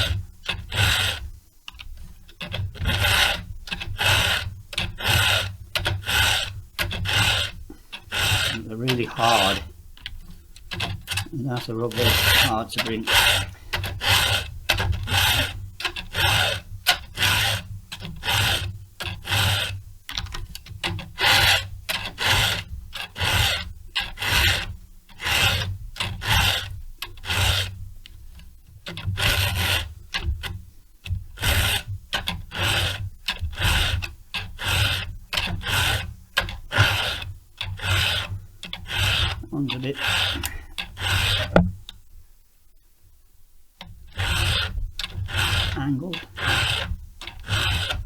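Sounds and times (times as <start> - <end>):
file rasping across saw chain: 0.0 - 41.8, 43.9 - 48.0.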